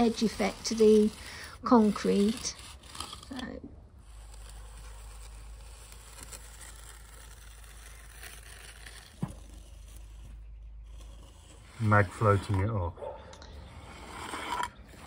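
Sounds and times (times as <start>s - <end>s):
concrete edger scraping: 0.0s - 15.0s.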